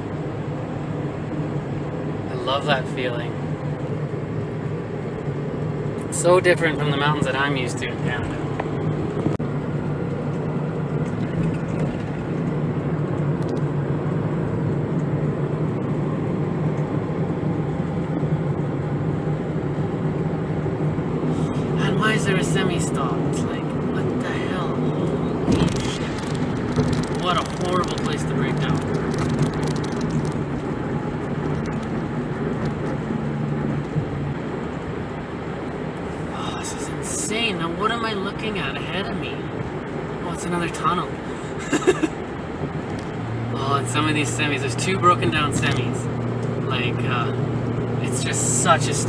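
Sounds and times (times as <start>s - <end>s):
tyre and road noise: 0.0s - 49.0s
van engine drone: 0.0s - 49.0s.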